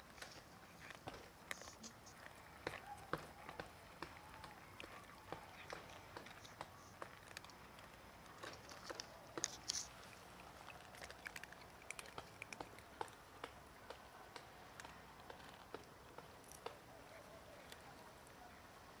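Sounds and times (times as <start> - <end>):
cats crunching dry kibble: 0.0 - 16.9.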